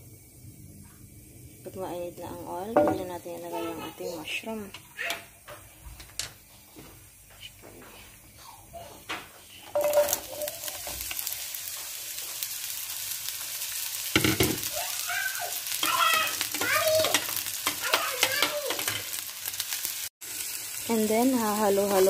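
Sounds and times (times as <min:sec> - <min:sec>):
mushrooms sizzling in a frying pan: 0:00.0 - 0:22.0.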